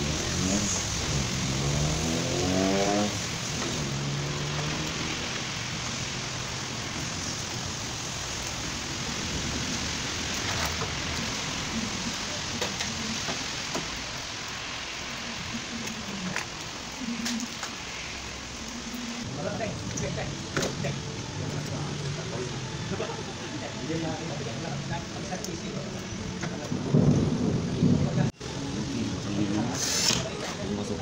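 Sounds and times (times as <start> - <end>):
steady rushing hiss: 0.0 - 31.0.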